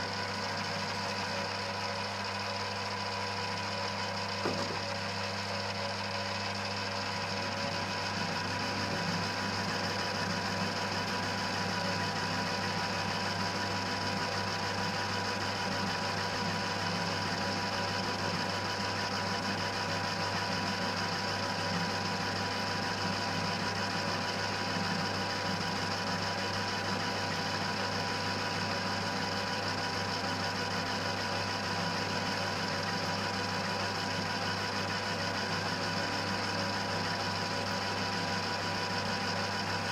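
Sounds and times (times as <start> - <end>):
lathe running with motor hum: 0.0 - 39.9.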